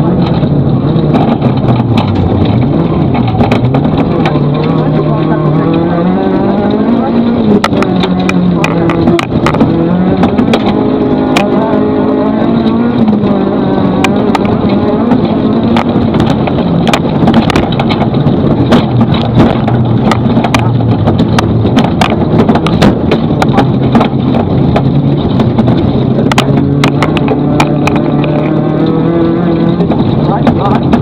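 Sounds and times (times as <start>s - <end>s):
rally car engine running hard: 0.0s - 31.0s
sharp clicks and knocks: 0.0s - 31.0s.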